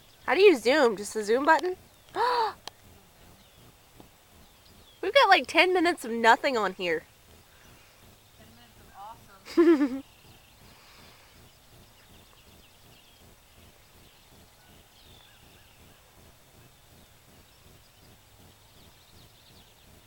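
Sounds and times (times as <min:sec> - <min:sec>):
distant bird chirps: 0:00.0 - 0:20.0
faint outdoor background noise: 0:00.0 - 0:20.0.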